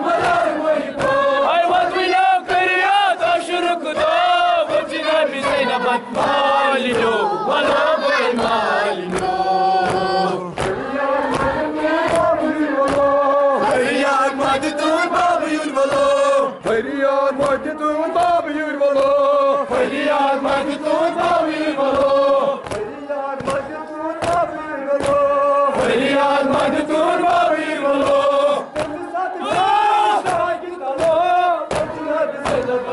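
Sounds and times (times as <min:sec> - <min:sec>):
crowd chanting a lament: 0:00.0 - 0:32.9.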